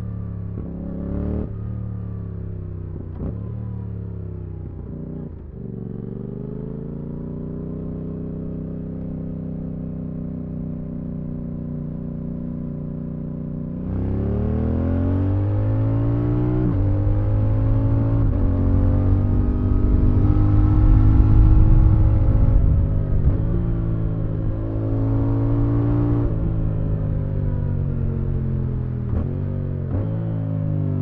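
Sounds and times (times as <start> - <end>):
motorcycle engine revving: 3.1 - 31.0.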